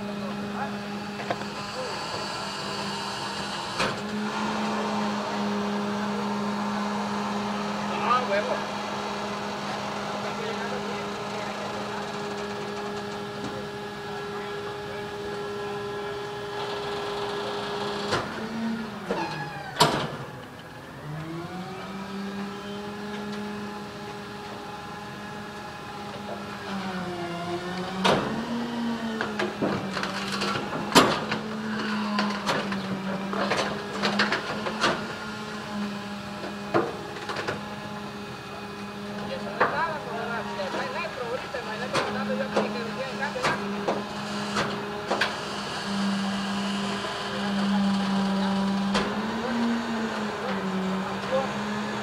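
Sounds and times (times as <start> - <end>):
garbage truck engine running: 0.0 - 52.0.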